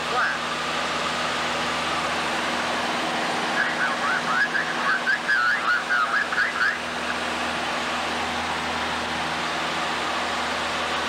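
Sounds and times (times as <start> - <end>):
light plane engine drone: 0.0 - 11.0.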